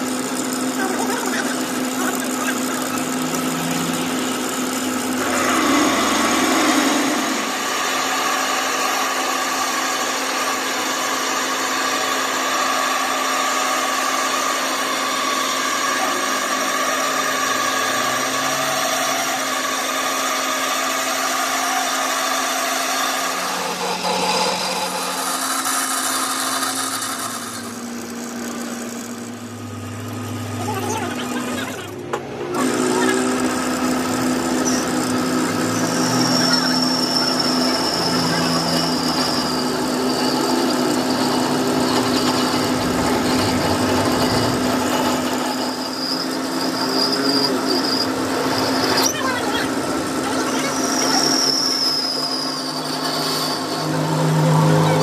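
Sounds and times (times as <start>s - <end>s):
machine motor whine: 0.0s - 55.0s.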